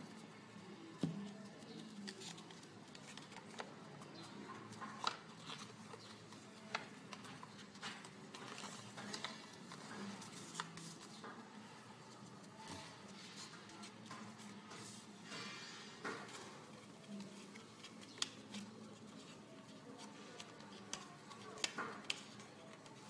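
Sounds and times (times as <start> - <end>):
paper rustling and crinkling: 1.2 - 23.0.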